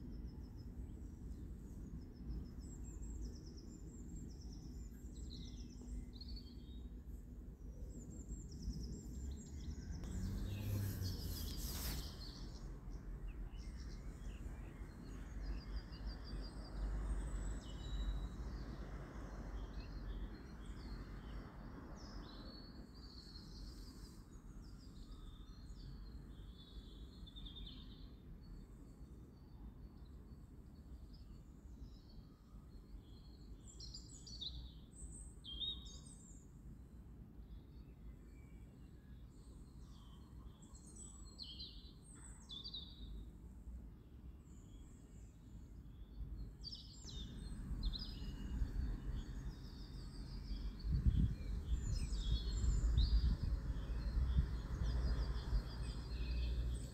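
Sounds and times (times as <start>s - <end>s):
small birds chirping: 0.0s - 36.5s, 44.5s - 56.9s.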